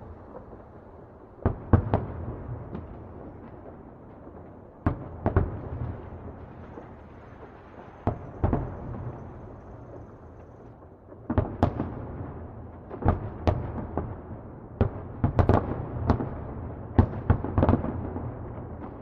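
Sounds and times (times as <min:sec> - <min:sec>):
distant fireworks booming: 0:00.0 - 0:19.0.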